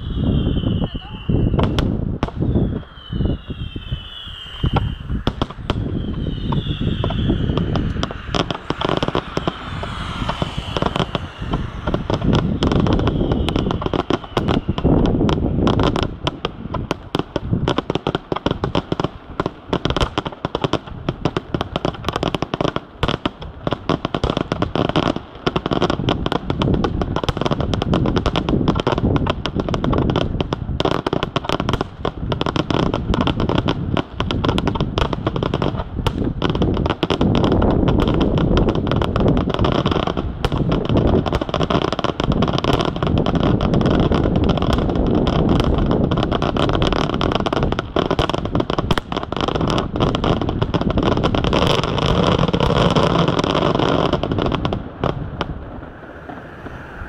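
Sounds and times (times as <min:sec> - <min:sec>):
fireworks bangs and crackles: 0:00.0 - 0:56.7.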